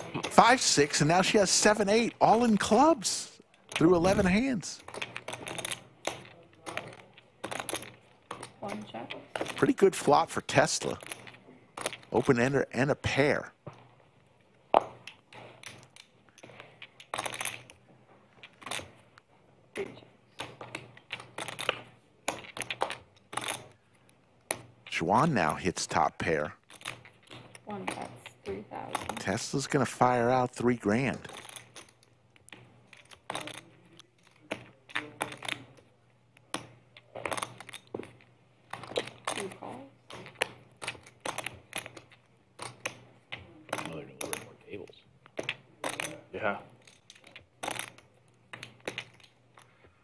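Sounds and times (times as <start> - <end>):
poker chips clicking: 0.0 - 13.6, 14.2 - 50.0.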